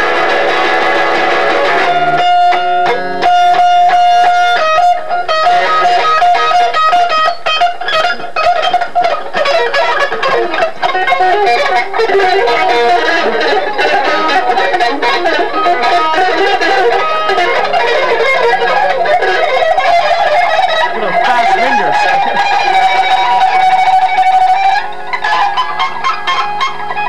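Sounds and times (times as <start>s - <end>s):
electric guitar notes: 0.0s - 27.0s.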